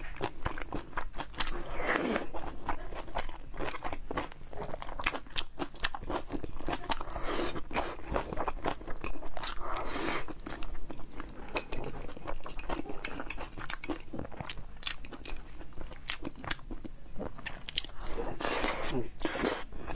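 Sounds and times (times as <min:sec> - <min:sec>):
close chewing with wet mouth clicks: 0:02.2 - 0:19.9.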